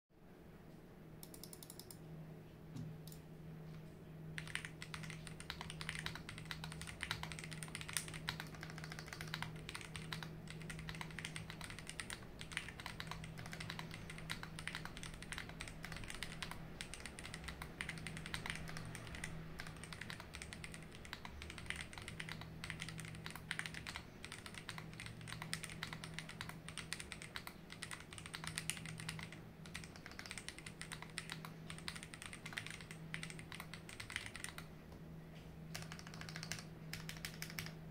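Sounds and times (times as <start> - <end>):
mechanical keyboard typing: 1.2 - 2.0, 4.4 - 34.7, 35.7 - 37.9.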